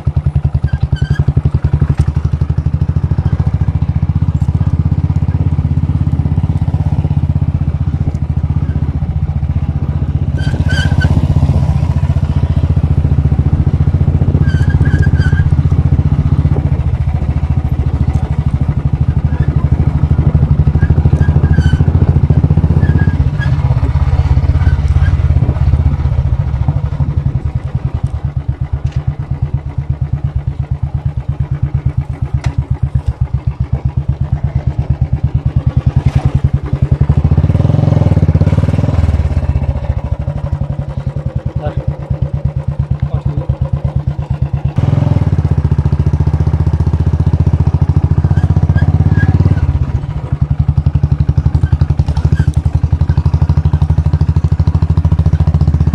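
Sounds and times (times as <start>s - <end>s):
motorcycle engine thumping: 0.0s - 55.9s.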